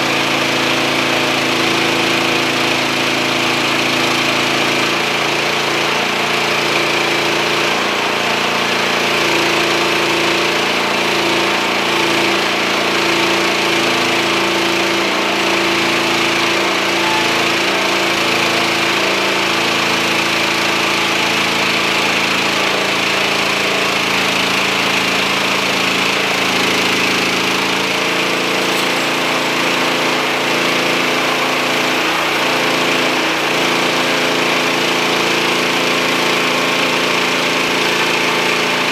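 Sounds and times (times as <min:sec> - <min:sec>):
band sawmill cutting log: 0:00.0 - 0:38.9.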